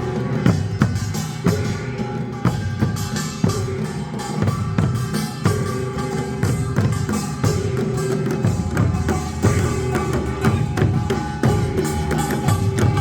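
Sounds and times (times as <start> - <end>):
folk music with drums: 0.0 - 13.0.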